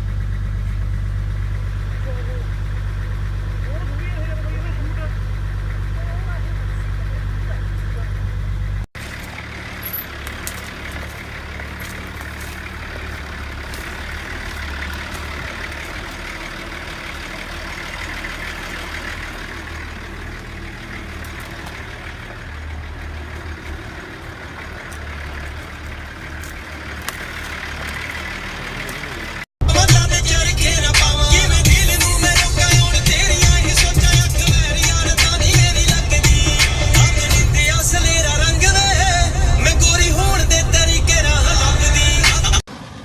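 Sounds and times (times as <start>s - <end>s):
road and wind noise: 0.0s - 43.0s
truck engine rumbling: 0.0s - 43.0s.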